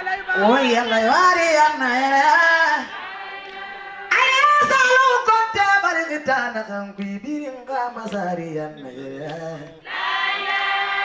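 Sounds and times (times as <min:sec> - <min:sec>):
woman singing unaccompanied: 0:00.0 - 0:02.9, 0:04.0 - 0:11.0.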